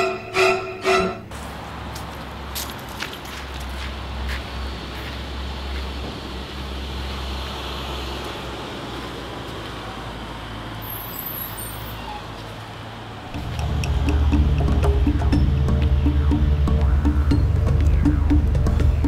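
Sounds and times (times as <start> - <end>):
distant road traffic rumble: 1.2 - 19.0.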